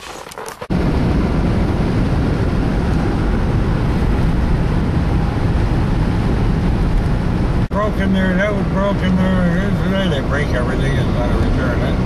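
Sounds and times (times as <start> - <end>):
car interior road noise: 0.0 - 12.0.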